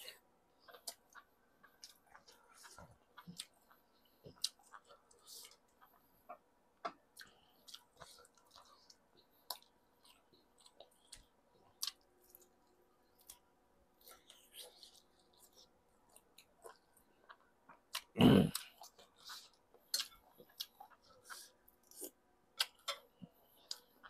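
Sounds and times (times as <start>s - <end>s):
man chewing: 0.0s - 24.0s.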